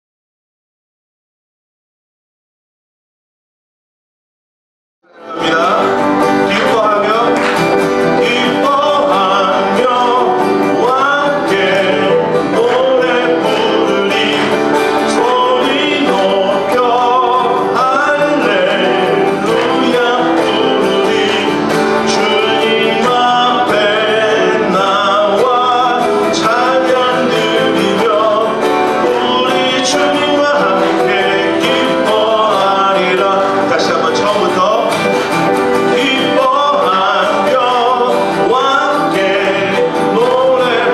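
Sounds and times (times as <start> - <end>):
acoustic guitar strumming: 5.1 - 40.9
man singing into a microphone: 5.1 - 40.9.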